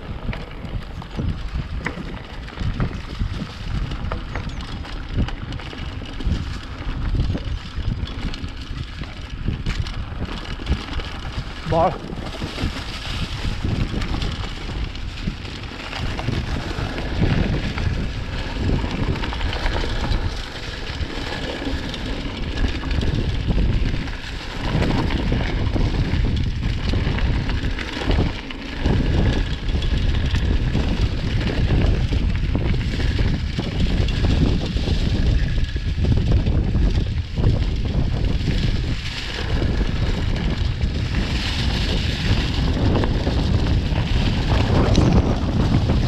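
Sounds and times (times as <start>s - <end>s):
bicycle tyres rumbling and rattling: 0.0s - 46.0s
wind buffeting microphone: 0.0s - 46.0s.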